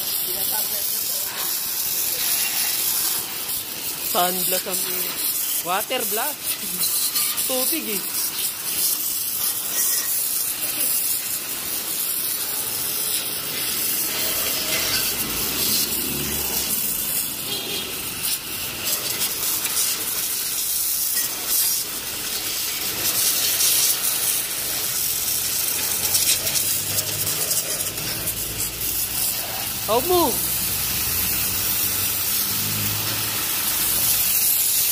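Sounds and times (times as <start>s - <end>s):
pressure washer jet hissing: 0.0s - 34.9s.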